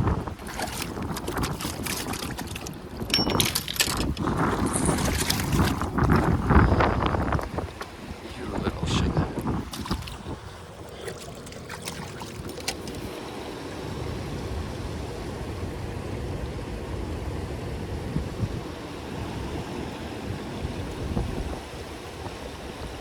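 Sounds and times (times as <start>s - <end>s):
river water rushing: 2.2s - 23.0s.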